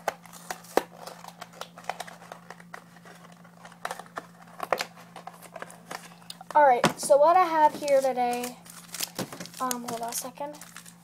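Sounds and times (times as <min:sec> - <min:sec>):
packaging crinkles and clicks: 0:00.0 - 0:06.5, 0:07.8 - 0:11.0.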